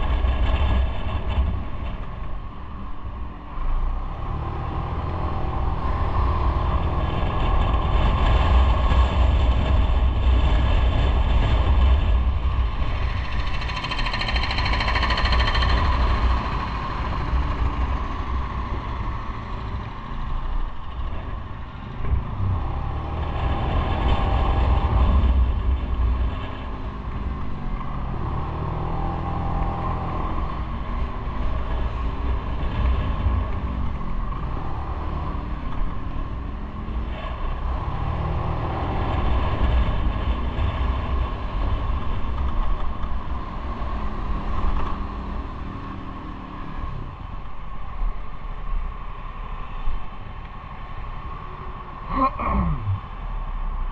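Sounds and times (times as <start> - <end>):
road and wind rush: 0.0 - 53.9.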